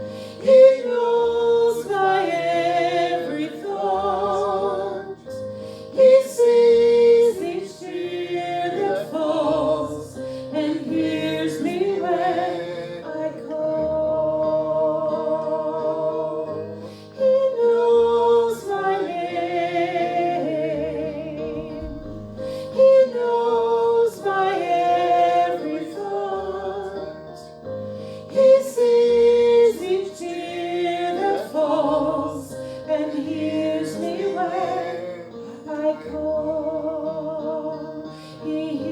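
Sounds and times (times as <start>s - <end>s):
person singing with vibrato: 0.0s - 38.9s
sustained instrumental accompaniment: 0.0s - 38.9s.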